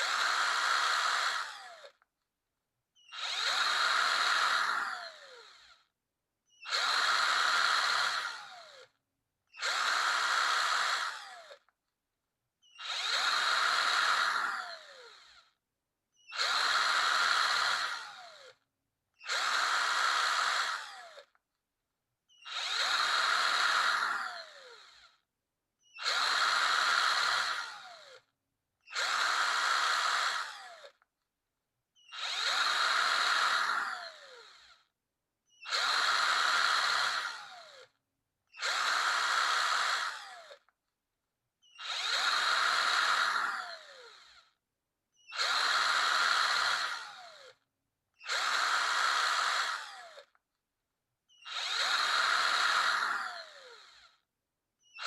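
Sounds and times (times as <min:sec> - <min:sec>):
electric drill whirring: 0:00.0 - 0:02.0, 0:03.0 - 0:05.9, 0:06.5 - 0:11.8, 0:12.6 - 0:21.4, 0:22.3 - 0:31.1, 0:32.0 - 0:34.9, 0:35.5 - 0:40.8, 0:41.6 - 0:44.6, 0:45.2 - 0:50.4, 0:51.3 - 0:55.0.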